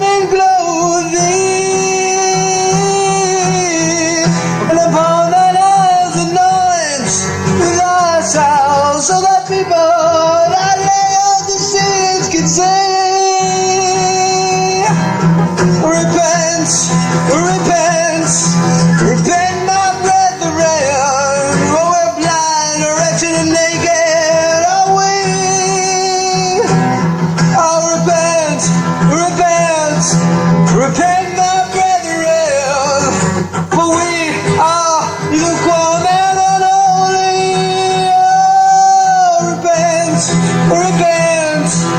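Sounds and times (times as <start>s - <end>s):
song with sung melody: 0.0s - 41.9s.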